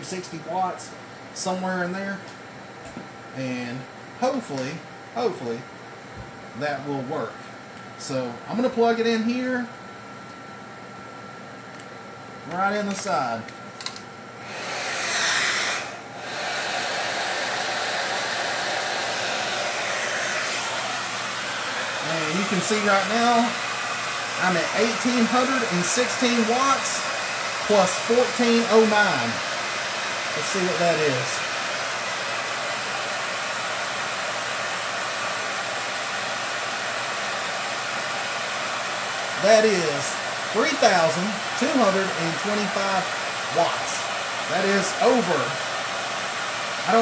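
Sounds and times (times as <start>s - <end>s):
space heater fans: 0.0s - 47.0s
hair dryer blowing air: 2.9s - 9.7s, 12.5s - 47.0s.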